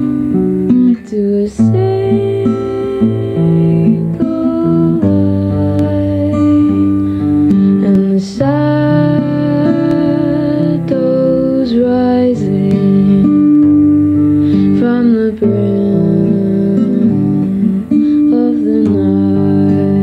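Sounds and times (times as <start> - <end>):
acoustic guitar plucked and strummed: 0.0 - 20.0
person singing slow melody: 0.0 - 20.0.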